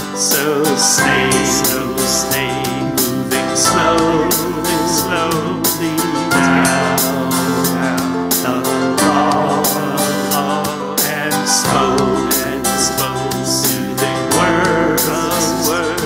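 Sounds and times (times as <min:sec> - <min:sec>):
harmony vocals: 0:00.0 - 0:16.0
man singing folk song: 0:00.0 - 0:16.0
strummed acoustic guitars: 0:00.0 - 0:16.0.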